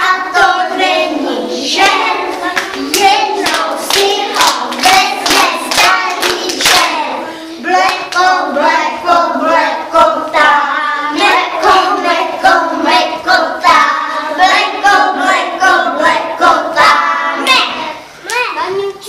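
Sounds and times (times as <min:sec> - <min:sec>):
children singing: 0:00.0 - 0:18.2.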